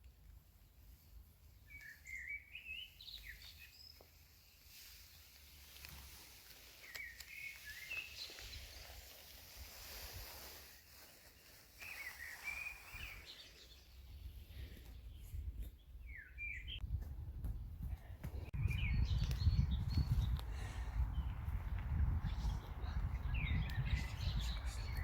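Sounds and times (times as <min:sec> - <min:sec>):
songbirds chirping: 0:00.1 - 0:25.0.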